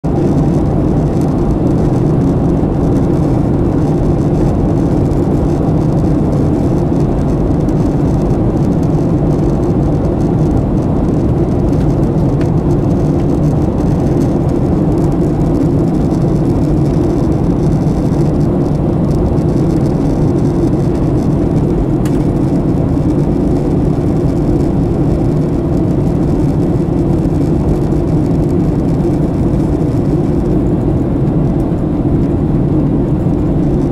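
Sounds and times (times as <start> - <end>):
engine running drone: 0.0 - 33.9.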